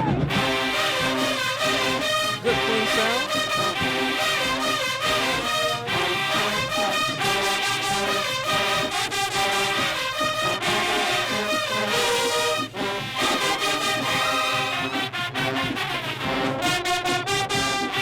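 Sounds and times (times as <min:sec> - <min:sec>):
brass section playing chords: 0:00.0 - 0:18.0.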